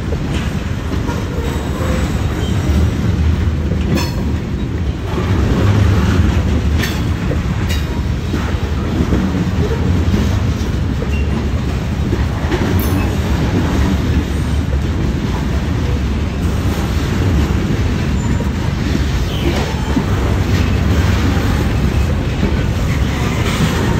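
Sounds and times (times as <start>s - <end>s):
train trucks clicking: 0.0s - 23.9s
train wheels rumbling on rail: 0.0s - 23.9s.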